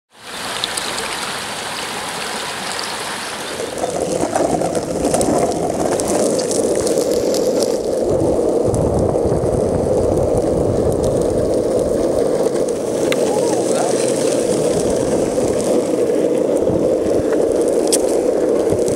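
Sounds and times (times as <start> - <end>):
stream running over rocks: 0.1 - 9.4, 10.5 - 18.9
longboard wheels rolling on asphalt: 0.1 - 18.9.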